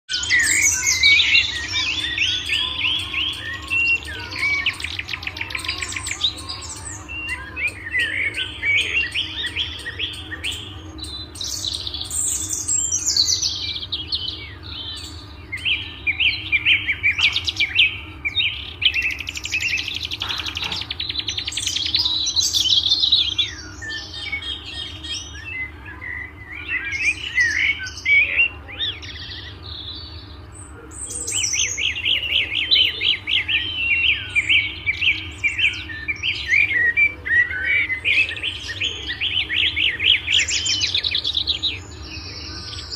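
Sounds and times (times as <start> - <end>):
small birds chirping and twittering: 0.1 - 42.9.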